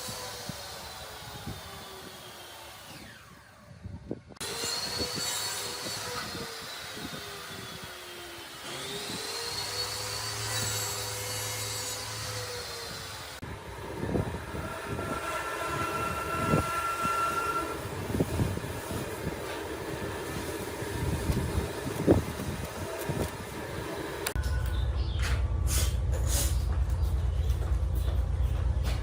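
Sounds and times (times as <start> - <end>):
power tool motor whining: 0.0 - 24.4.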